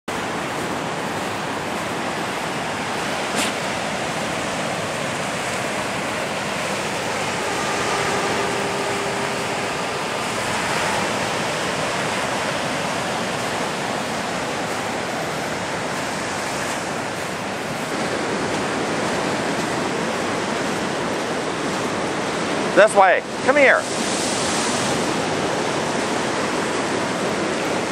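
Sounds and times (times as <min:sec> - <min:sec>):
ocean surf breaking on beach: 0:00.1 - 0:27.9.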